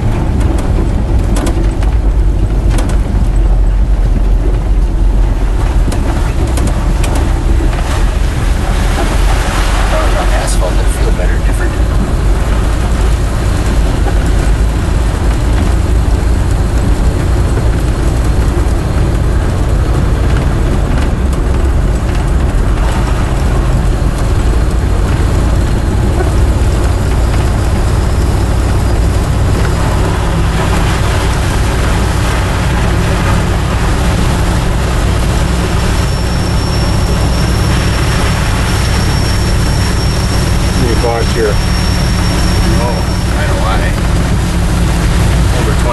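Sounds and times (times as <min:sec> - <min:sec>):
road noise: 0:00.0 - 0:45.9
truck engine running: 0:00.0 - 0:45.9.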